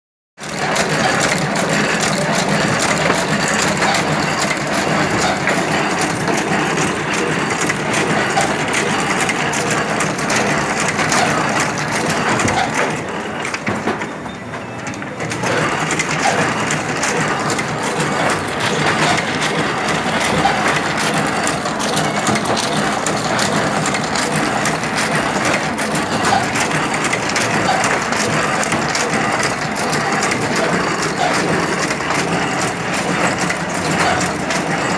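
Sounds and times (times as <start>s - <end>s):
sewing machine clattering: 0.4s - 34.9s.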